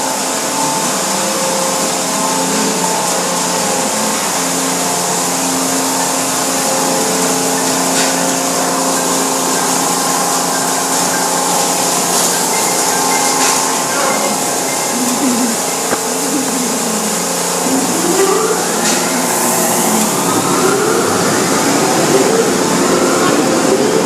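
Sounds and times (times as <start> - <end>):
car wash machinery rushing: 0.0 - 24.0
faint hum: 0.0 - 24.0.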